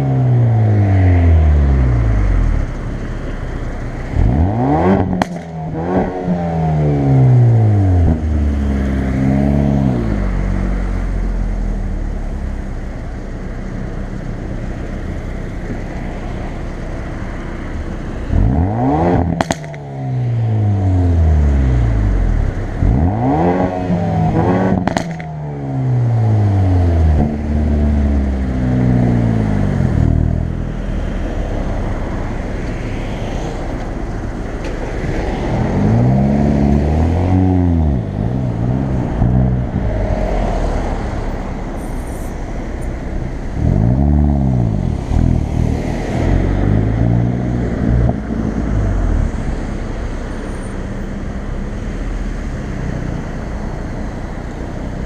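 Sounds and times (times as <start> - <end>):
car engine revving: 0.0 - 12.4, 13.6 - 55.0.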